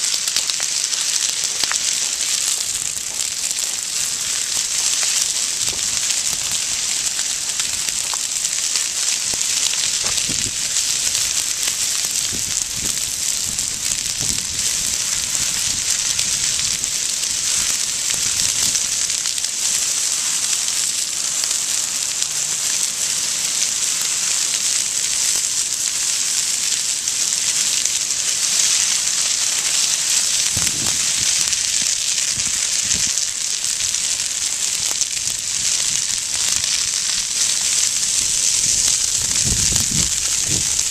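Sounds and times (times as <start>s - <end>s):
crackles and pops of burning brush: 0.0s - 40.9s
hiss of flames: 0.0s - 40.9s.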